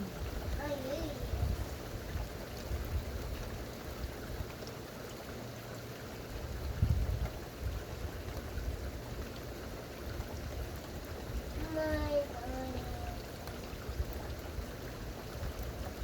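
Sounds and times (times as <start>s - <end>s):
low uneven rumble: 0.0s - 16.0s
rain falling: 0.0s - 16.0s.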